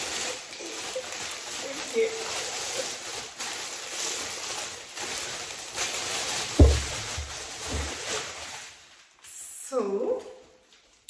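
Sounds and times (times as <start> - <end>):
clothes rustling: 0.0 - 9.2.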